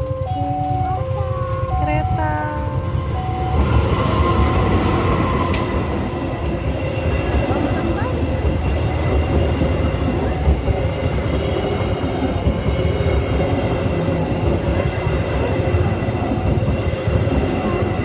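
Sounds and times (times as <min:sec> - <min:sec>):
train rumbling past on rails: 0:00.0 - 0:18.0.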